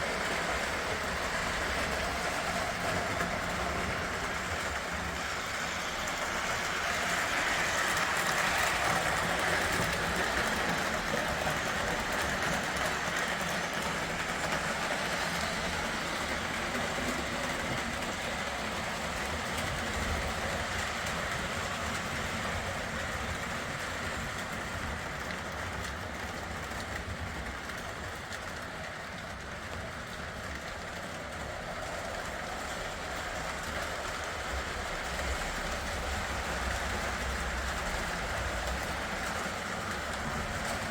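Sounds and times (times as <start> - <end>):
model trains running on track: 0.0 - 40.9.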